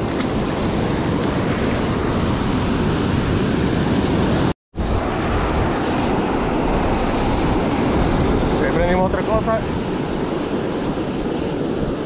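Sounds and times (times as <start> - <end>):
breaking surf: 0.0 - 12.0
wind on microphone: 0.0 - 12.0.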